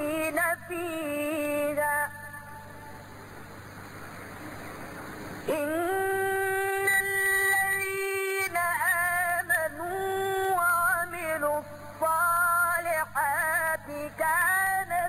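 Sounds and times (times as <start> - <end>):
person chanting melodically: 0.0 - 3.0, 5.4 - 15.0.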